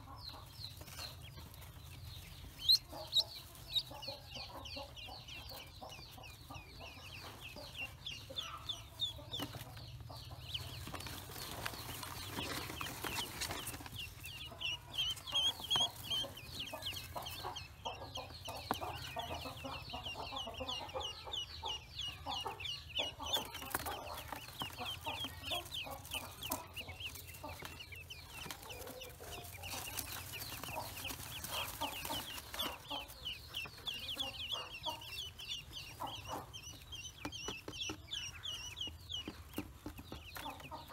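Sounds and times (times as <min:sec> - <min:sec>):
ducklings peeping: 0:00.0 - 0:40.9.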